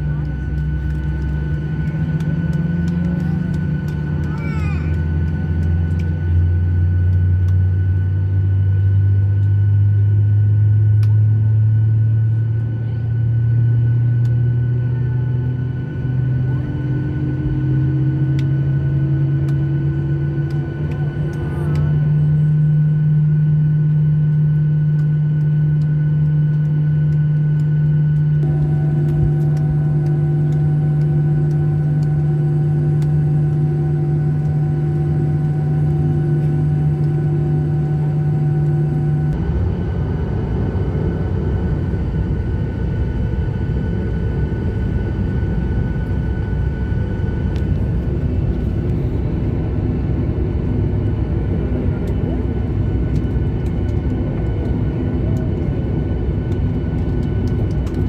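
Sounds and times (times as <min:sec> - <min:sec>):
aircraft rough low rumble: 0:00.0 - 0:58.0
airliner cabin engine hum: 0:00.0 - 0:58.0.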